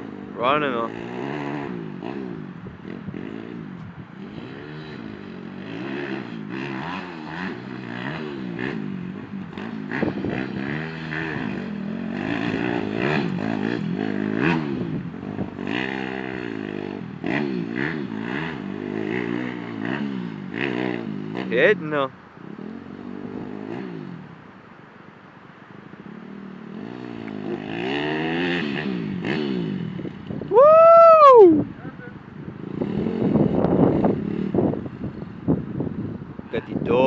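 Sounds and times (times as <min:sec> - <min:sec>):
dirt bike engine revving: 0:00.0 - 0:24.5, 0:26.0 - 0:37.0.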